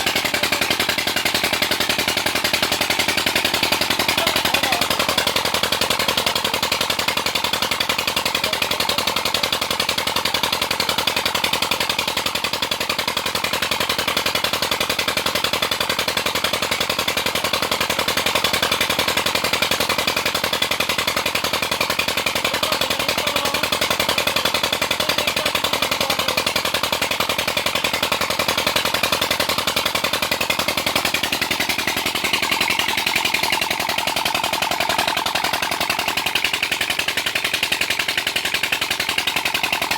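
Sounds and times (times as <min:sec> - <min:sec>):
diesel pump engine running: 0:00.0 - 0:39.9.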